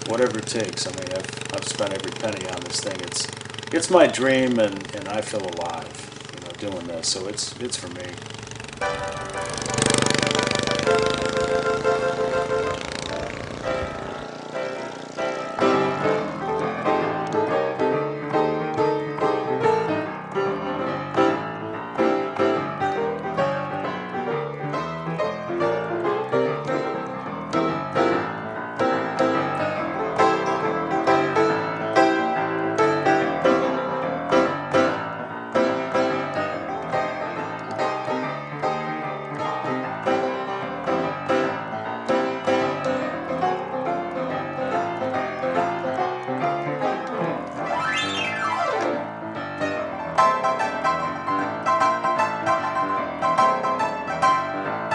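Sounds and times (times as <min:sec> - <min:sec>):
lively piano piece: 0:00.0 - 0:54.9.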